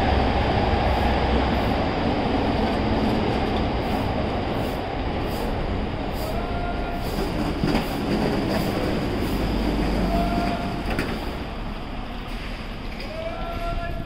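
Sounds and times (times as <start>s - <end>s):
train clacks: 0.0s - 14.0s
train rumbling past: 0.0s - 14.0s.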